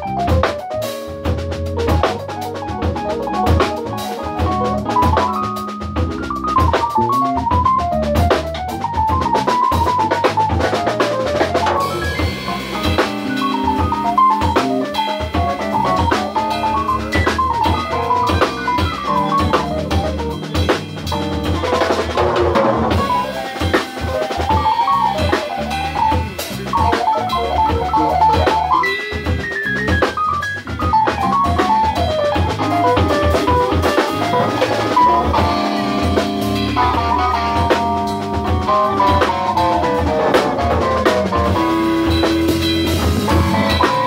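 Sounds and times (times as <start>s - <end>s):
bass line: 0.0s - 44.0s
drum groove: 0.0s - 44.0s
electric piano melody: 0.0s - 44.0s.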